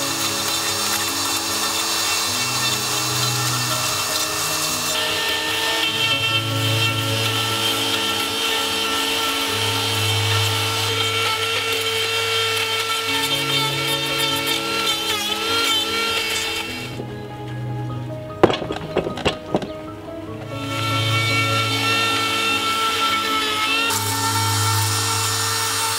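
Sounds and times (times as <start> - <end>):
grinder burr grinding wood: 0.0 - 17.1, 20.4 - 25.9
background music: 0.0 - 25.9.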